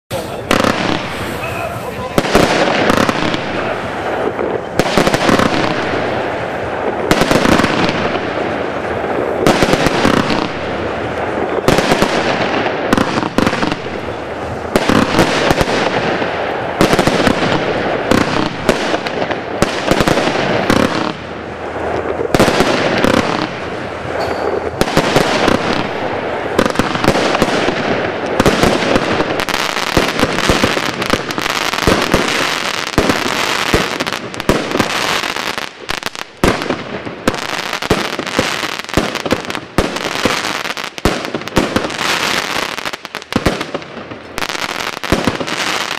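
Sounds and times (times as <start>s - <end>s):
fireworks barrage: 0.1s - 45.9s
fireworks bursting overhead: 0.1s - 45.9s.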